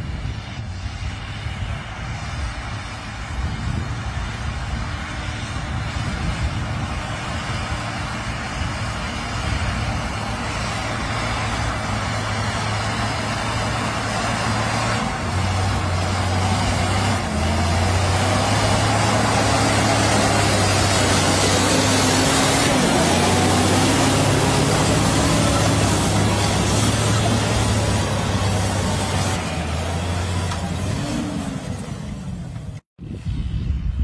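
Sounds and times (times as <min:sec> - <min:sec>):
tractor engine droning: 0:00.0 - 0:33.8.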